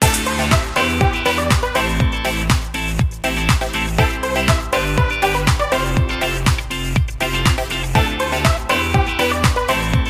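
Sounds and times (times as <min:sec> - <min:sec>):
dance music with kick drum: 0:00.0 - 0:10.0.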